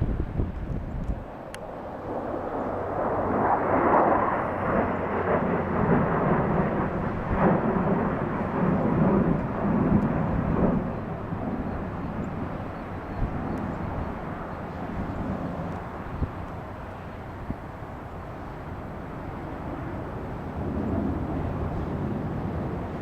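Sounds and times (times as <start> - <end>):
fighter jets flying by: 0.0 - 23.0.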